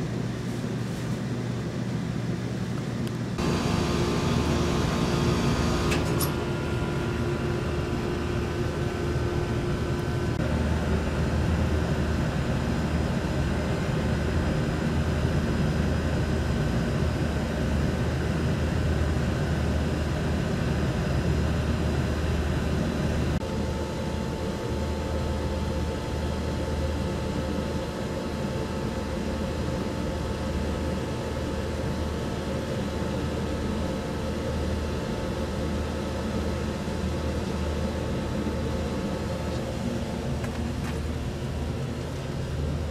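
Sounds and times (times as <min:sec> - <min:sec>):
air conditioner humming: 0:00.0 - 0:42.9.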